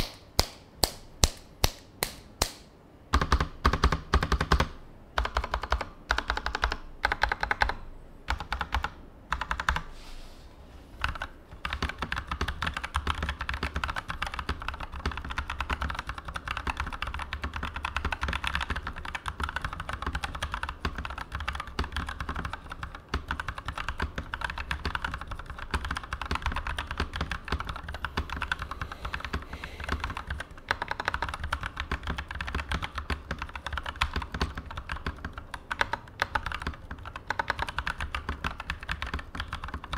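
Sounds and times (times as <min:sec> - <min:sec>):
mechanical keyboard typing: 0:03.1 - 0:09.9, 0:11.0 - 0:39.9.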